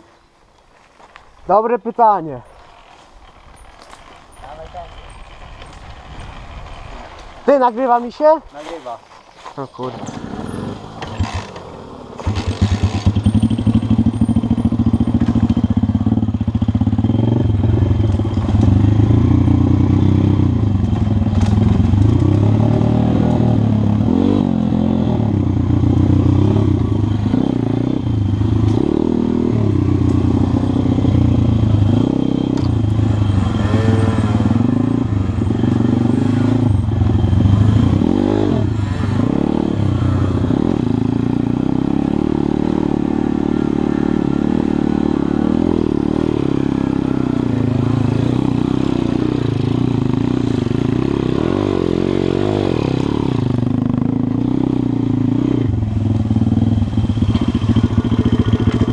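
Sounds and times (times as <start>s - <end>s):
motorbike engine revving: 9.6s - 58.9s.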